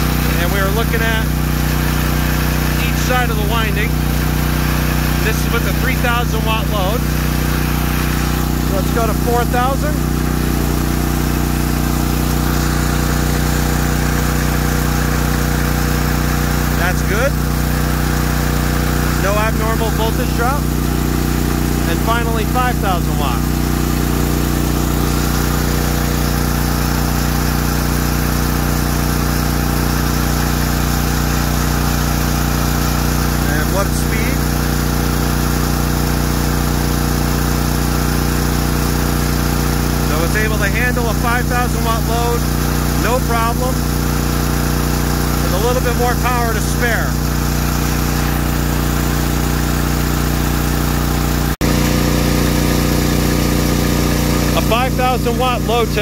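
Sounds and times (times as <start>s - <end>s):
generator engine running: 0.0s - 56.0s.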